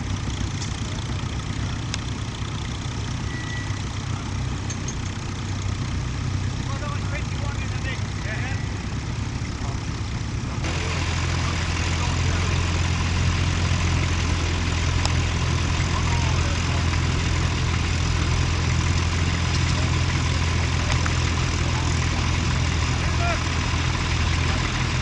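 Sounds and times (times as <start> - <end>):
tractor engines droning: 0.0 - 25.0.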